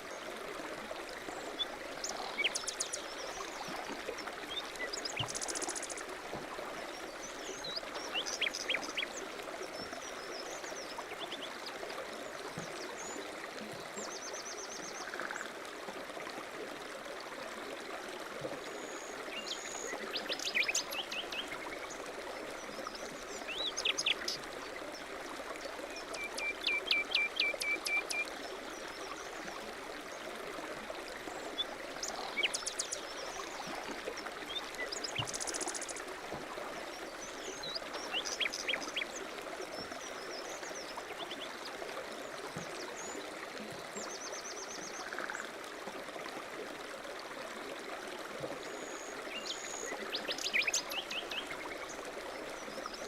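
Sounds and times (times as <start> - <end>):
babbling stream: 0.0 - 53.0.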